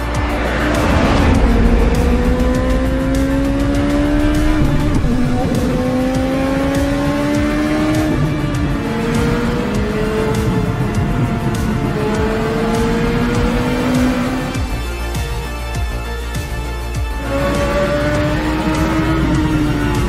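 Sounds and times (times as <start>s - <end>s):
background music: 0.0s - 20.0s
car engine accelerating hard: 0.0s - 20.0s.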